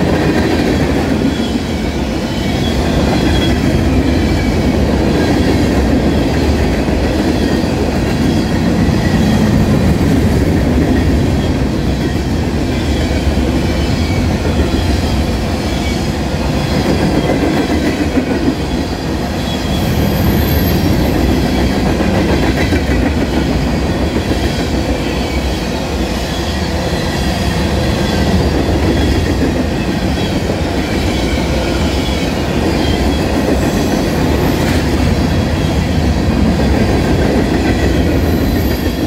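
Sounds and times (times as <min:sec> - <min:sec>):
freight train wheels rumbling: 0:00.0 - 0:39.0.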